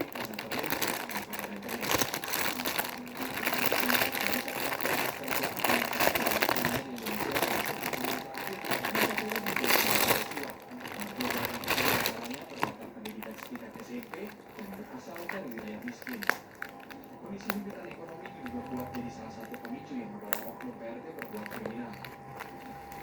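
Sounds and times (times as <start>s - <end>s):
faint speech: 0.0s - 23.0s
packaging rustling and crinkling: 0.0s - 23.0s.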